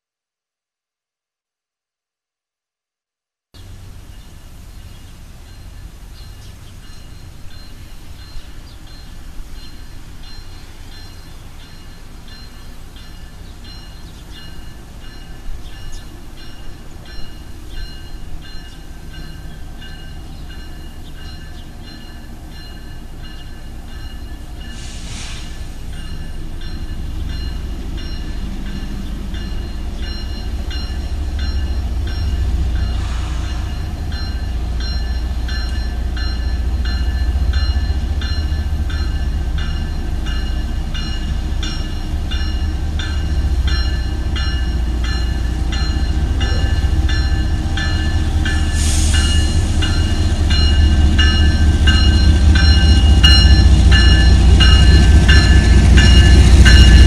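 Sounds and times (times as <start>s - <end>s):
crossing bells dinging: 3.6s - 57.0s
diesel locomotive engine rumble: 3.6s - 57.0s.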